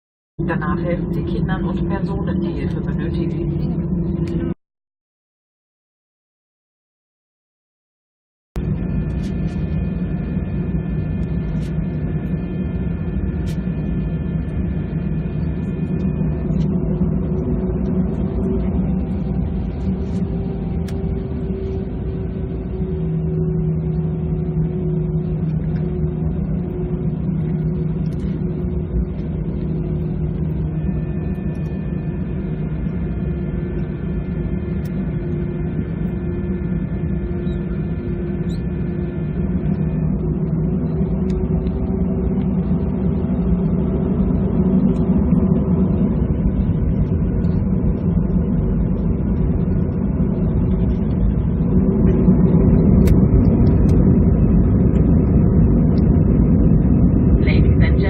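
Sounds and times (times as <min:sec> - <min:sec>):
jet engines droning in cabin: 0:00.4 - 0:04.6, 0:08.6 - 0:58.0
high steady whining tones: 0:08.6 - 0:58.0.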